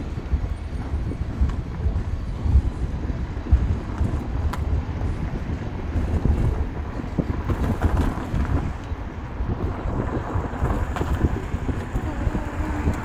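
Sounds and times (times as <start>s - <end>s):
car road and engine rumble: 0.0s - 13.0s
wind buffeting microphone: 0.0s - 13.0s.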